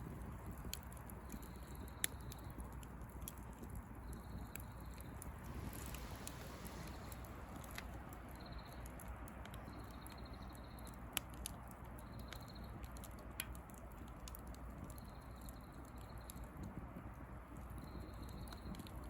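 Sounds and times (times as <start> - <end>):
bonfire hissing: 0.0 - 19.0
fire crackling: 0.0 - 19.0.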